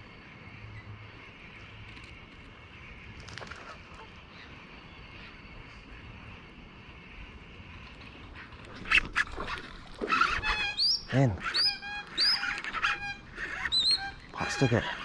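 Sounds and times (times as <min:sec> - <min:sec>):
outdoor hiss and low rumble: 0:00.0 - 0:15.0.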